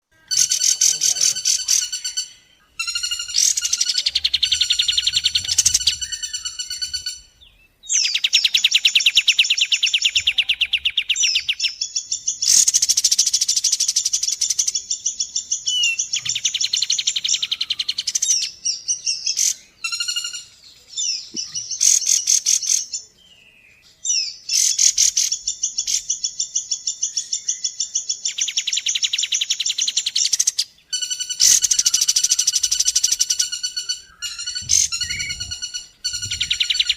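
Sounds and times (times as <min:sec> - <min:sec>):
rattling trilled bird calls: 0:00.2 - 0:10.3, 0:12.3 - 0:22.9, 0:24.5 - 0:26.9, 0:29.0 - 0:36.9.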